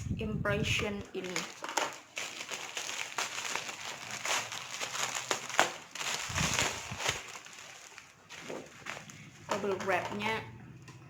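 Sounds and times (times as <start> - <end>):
plastic packaging crinkling: 0.8 - 10.3.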